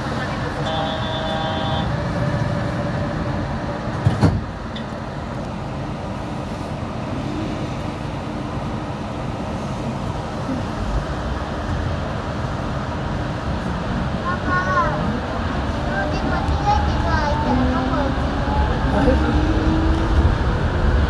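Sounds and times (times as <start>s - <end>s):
train tyres and drive rumbling: 0.0s - 21.0s.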